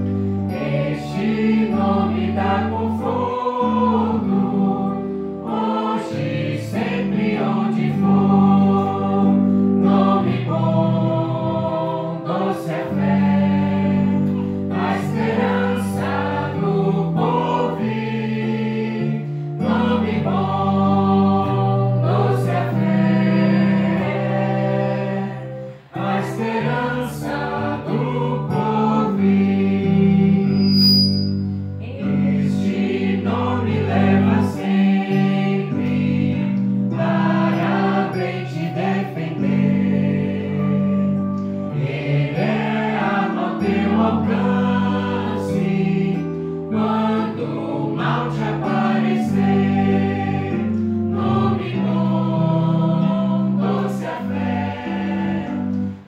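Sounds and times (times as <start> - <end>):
women singing a hymn: 0.0 - 30.8, 31.8 - 56.0
keyboard: 0.0 - 56.0.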